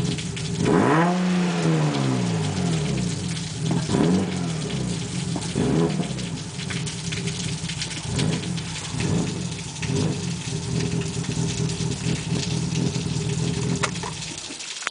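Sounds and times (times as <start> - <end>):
car engine idling unevenly: 0.0 - 14.8.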